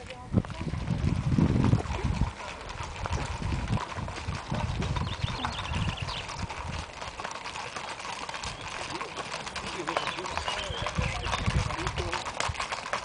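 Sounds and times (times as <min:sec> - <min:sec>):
horse hooves clip-clopping on asphalt: 0:00.0 - 0:13.0.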